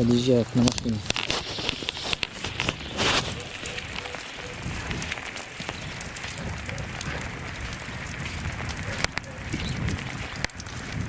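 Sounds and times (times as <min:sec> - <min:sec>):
rain falling steadily: 0:00.0 - 0:11.0
raindrops ticking on umbrella: 0:00.0 - 0:11.0.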